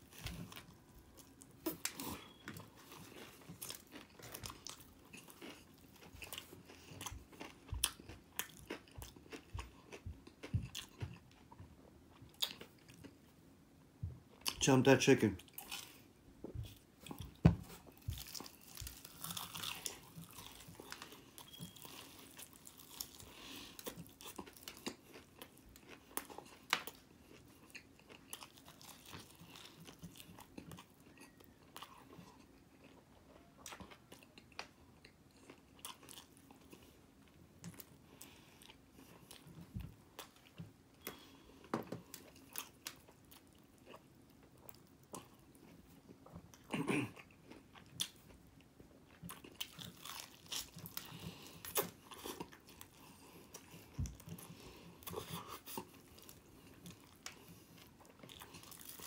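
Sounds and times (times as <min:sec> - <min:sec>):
chewing and crunching fried chicken: 0:00.0 - 0:13.3, 0:15.3 - 0:59.0.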